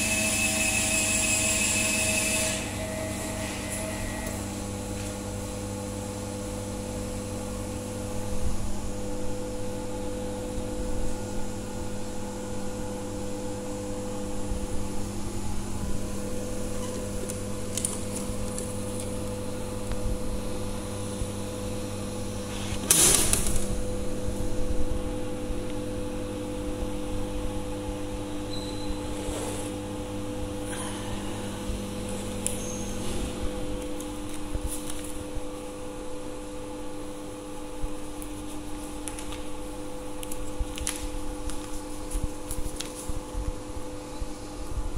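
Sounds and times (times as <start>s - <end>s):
vending machine humming: 0.0s - 44.9s.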